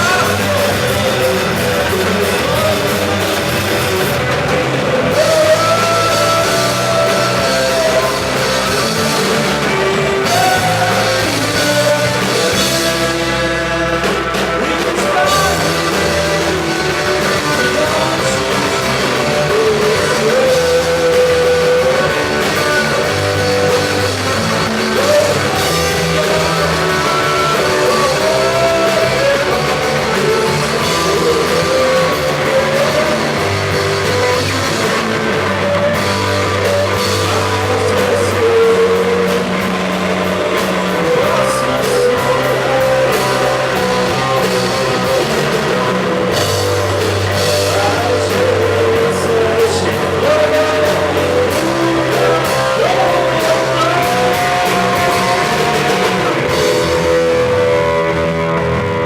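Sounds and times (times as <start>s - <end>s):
drum kit: 0.0s - 59.0s
electric guitar: 0.0s - 59.0s
rock band playing live: 0.0s - 59.0s.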